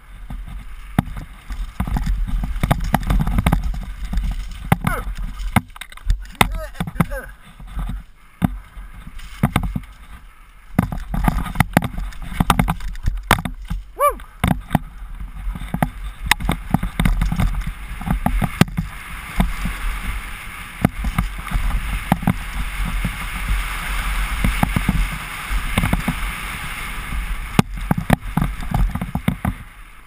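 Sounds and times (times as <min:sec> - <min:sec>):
bike knocking and rattling: 0:00.0 - 0:30.0
tyres on dirt: 0:00.0 - 0:30.0
wind rumble on microphone: 0:00.0 - 0:30.0.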